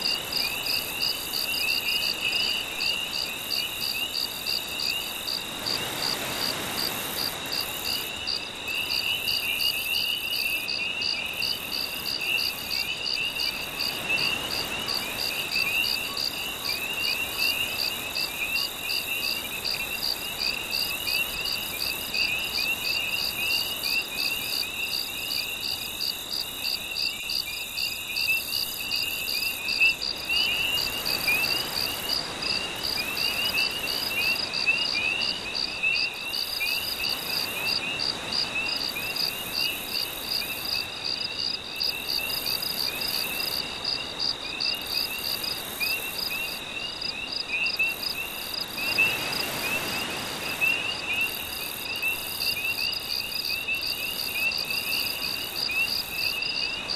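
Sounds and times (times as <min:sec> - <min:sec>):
pulsing insect chirp: 0:00.0 - 0:56.9.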